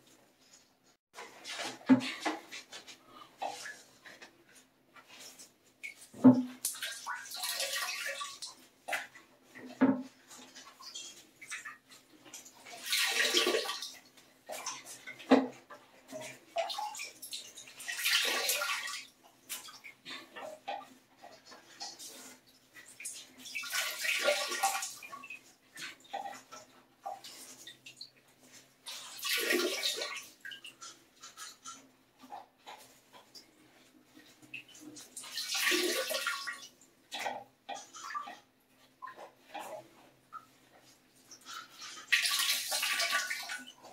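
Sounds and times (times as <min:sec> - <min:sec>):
water splashing and trickling: 0:00.4 - 0:43.9.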